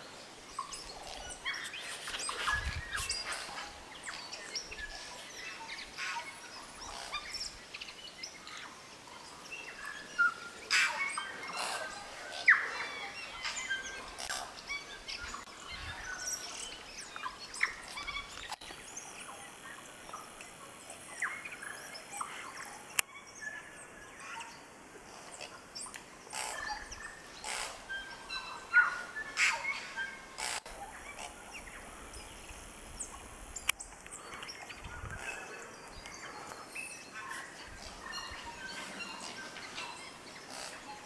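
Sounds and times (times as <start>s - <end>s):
birds chirping and whistling: 0.5s - 8.8s, 9.7s - 19.2s, 25.8s - 41.0s.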